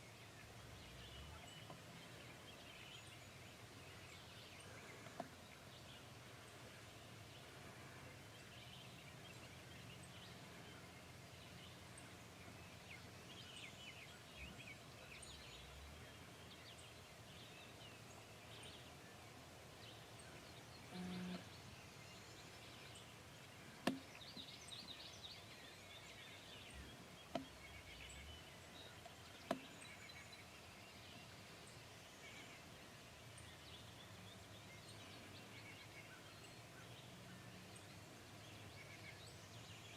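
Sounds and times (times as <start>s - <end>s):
faint birds chirping: 0.0s - 39.9s
low steady background hiss: 0.0s - 39.9s.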